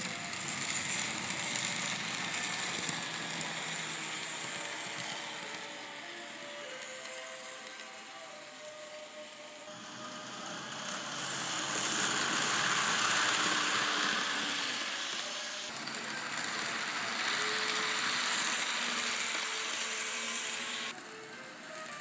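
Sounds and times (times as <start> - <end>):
model train whirring and rattling: 0.0 - 22.0.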